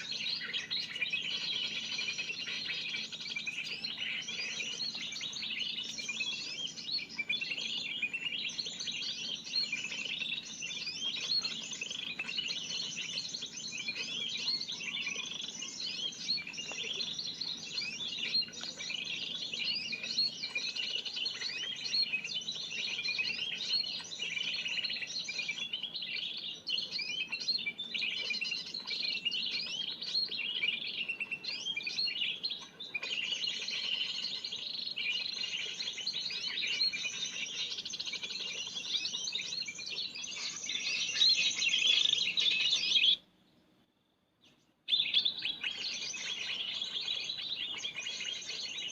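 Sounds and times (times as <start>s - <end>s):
rapid high bird chirps: 0.0s - 43.2s, 44.5s - 48.9s.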